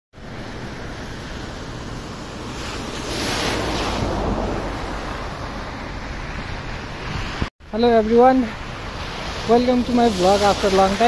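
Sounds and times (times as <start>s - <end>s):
wind rumbling on microphone: 0.2s - 11.0s.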